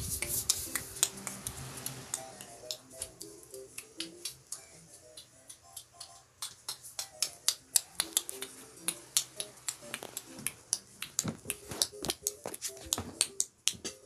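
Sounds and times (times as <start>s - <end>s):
faint music with held notes: 0.0s - 14.0s
sharp clicks or snaps: 0.2s - 14.0s.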